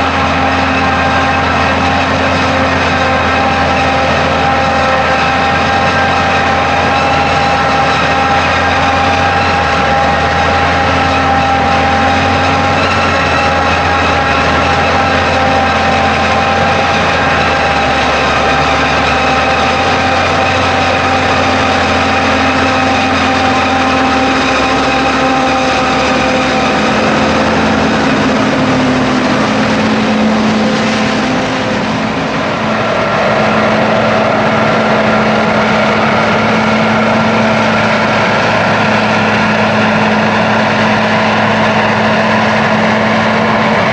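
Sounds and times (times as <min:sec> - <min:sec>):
heavy diesel engines running: 0:00.0 - 0:43.9
high machine whine: 0:00.0 - 0:43.9.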